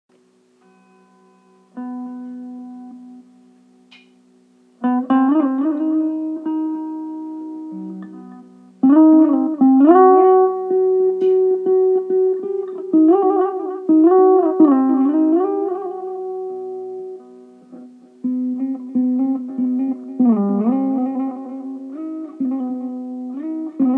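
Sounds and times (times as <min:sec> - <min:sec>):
electric mandolin melody: 0:00.6 - 0:04.1, 0:04.8 - 0:23.9.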